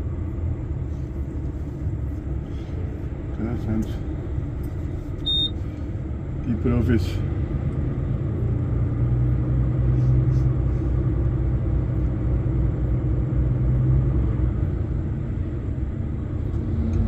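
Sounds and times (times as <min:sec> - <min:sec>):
low hum: 0:00.0 - 0:17.0
truck diesel engine rumbling: 0:00.0 - 0:17.0.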